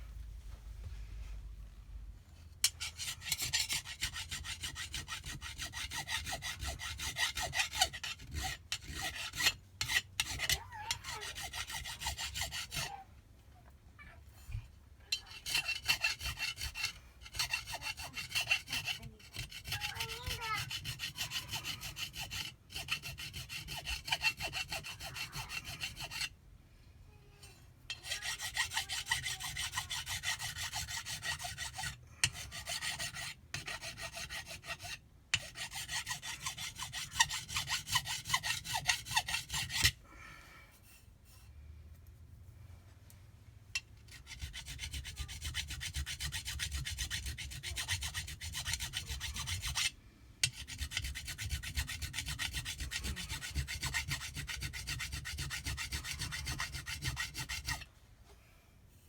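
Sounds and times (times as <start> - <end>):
hand file rasping on metal: 2.6 - 13.0, 15.1 - 26.4, 27.9 - 40.0, 43.7 - 57.9.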